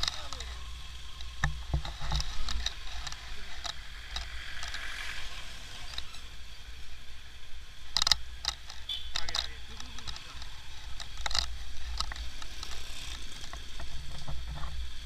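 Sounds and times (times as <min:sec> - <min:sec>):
motorcycle engine and road rumble: 0:00.0 - 0:15.0.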